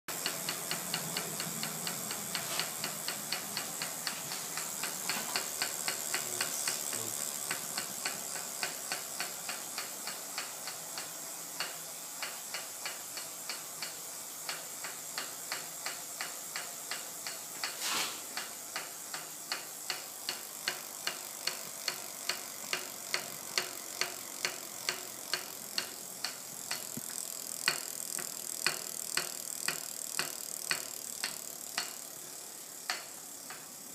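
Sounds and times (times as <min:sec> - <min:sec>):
bicycle clicking: 0:00.1 - 0:33.9
steady hiss: 0:00.1 - 0:33.9.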